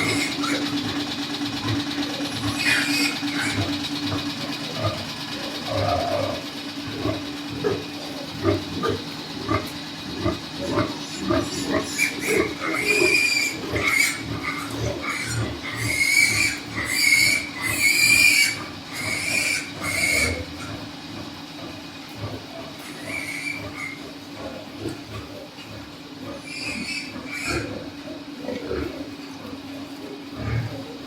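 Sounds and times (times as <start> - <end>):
pigs grunting: 0.0 - 31.0
pigs squealing: 0.0 - 31.0.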